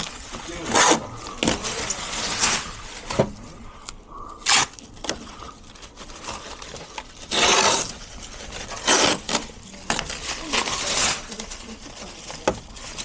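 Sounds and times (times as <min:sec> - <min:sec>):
handling rustling and scraping: 0:00.0 - 0:13.0
rasping noises: 0:00.0 - 0:13.0.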